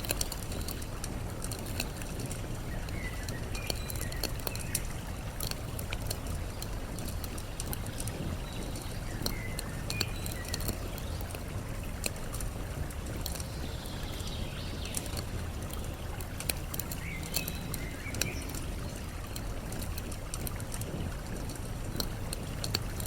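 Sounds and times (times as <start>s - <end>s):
campfire crackling and popping: 0.0s - 23.0s
running water rushing: 0.0s - 23.0s.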